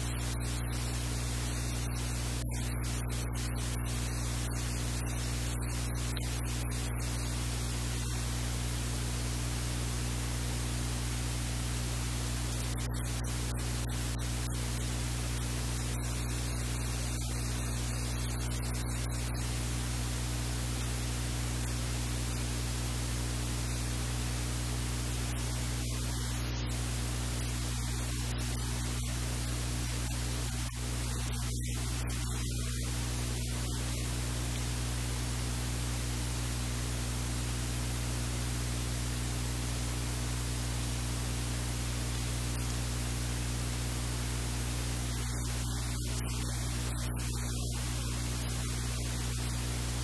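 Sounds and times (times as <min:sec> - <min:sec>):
low electrical hum: 0:00.0 - 0:50.0
recording hiss: 0:00.0 - 0:50.0.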